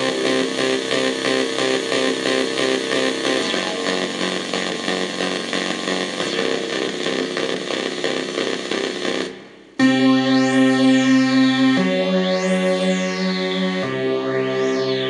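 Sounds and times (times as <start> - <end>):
buzzy synth bass: 0.0 - 15.0
synth bass with filter sweep: 0.0 - 15.0.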